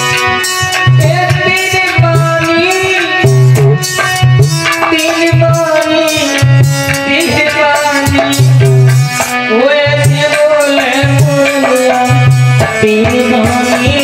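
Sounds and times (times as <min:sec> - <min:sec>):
hand drum beats: 0:00.0 - 0:14.0
harmonium: 0:00.0 - 0:14.0.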